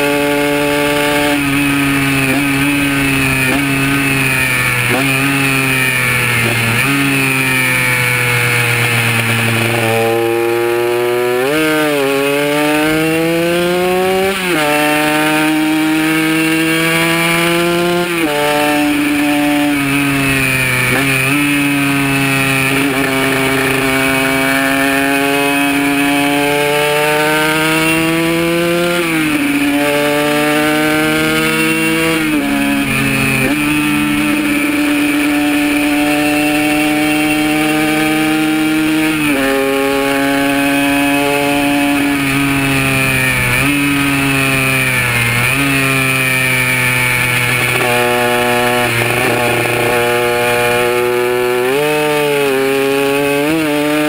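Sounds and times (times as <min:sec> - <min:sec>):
two-stroke engine revving and shifting: 0:00.0 - 0:54.0.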